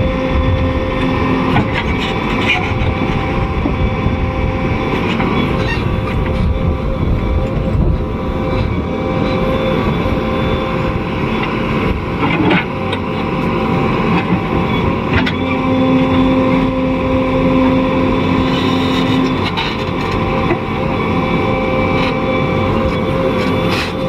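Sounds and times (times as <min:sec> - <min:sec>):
diesel engine running: 0:00.0 - 0:24.0
steady low tone: 0:00.0 - 0:24.0.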